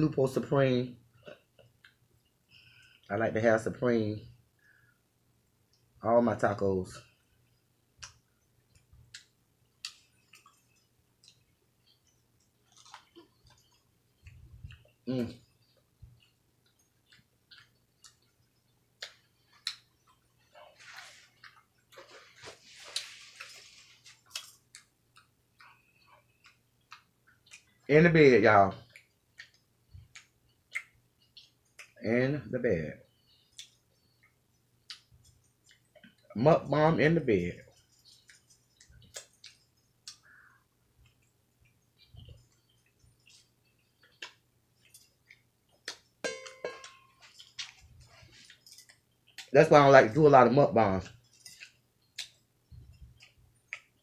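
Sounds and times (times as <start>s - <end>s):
person chewing with smacks and crunches: 1.2s - 3.1s, 7.1s - 27.9s, 28.7s - 32.0s, 33.3s - 36.4s, 37.6s - 46.3s, 46.9s - 49.6s, 51.0s - 54.0s.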